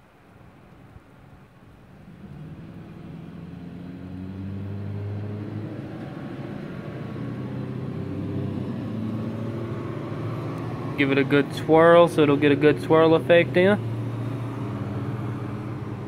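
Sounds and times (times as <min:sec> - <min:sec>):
vehicle engine humming: 0:01.5 - 0:16.0.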